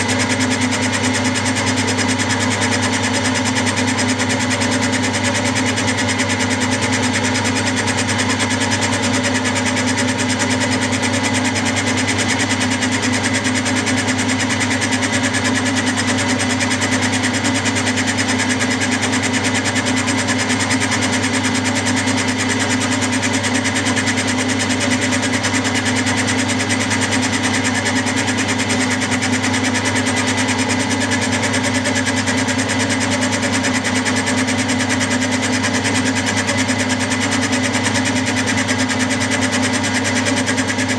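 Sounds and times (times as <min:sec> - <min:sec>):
milling machine humming: 0:00.0 - 0:40.9.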